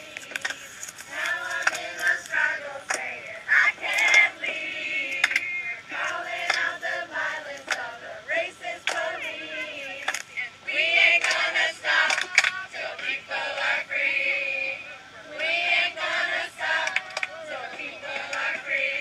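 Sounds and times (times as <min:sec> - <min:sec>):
crowd singing: 0:00.0 - 0:19.0.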